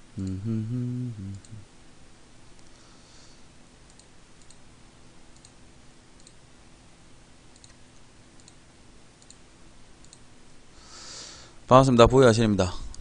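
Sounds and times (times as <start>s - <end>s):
low steady hiss and hum: 0.0s - 13.0s.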